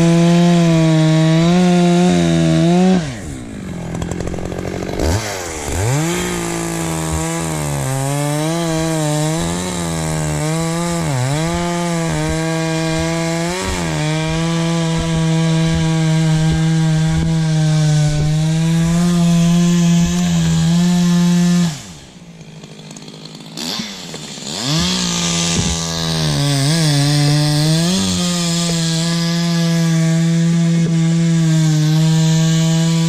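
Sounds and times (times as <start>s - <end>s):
two-stroke engine revving: 0.0s - 33.0s.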